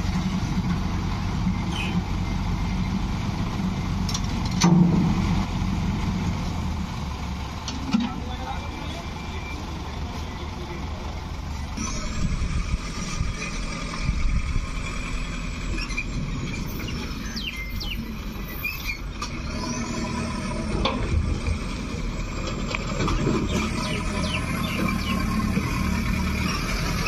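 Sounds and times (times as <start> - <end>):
truck diesel engine rumbling: 0.0 - 27.0.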